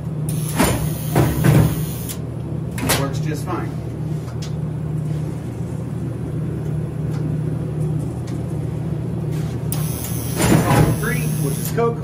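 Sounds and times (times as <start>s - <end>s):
vending machine hum: 0.0s - 12.0s.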